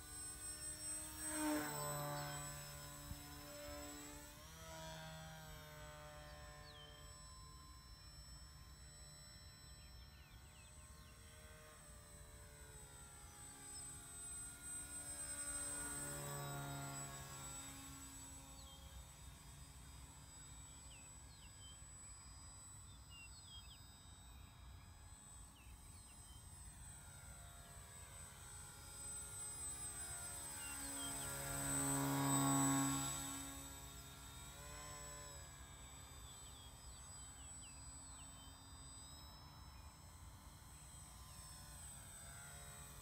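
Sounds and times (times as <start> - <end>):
model plane motor droning: 0.0 - 43.0.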